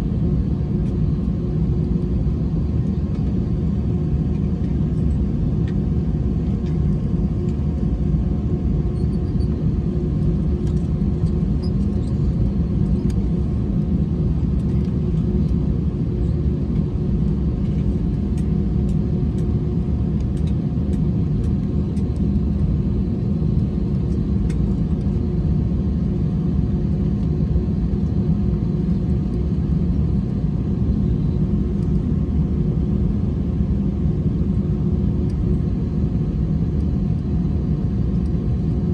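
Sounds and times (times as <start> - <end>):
aircraft cabin rumble: 0.0 - 38.9.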